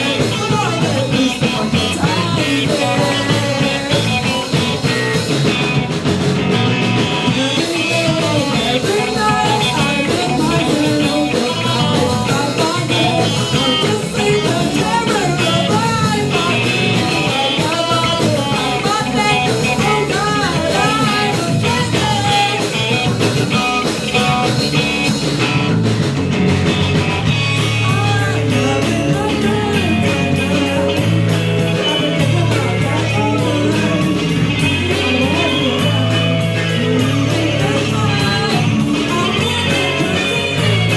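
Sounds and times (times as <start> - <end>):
person singing: 0.0 - 5.5, 7.0 - 25.1, 27.3 - 40.9
electric guitar: 0.0 - 40.9
live rock band playing: 0.0 - 40.9.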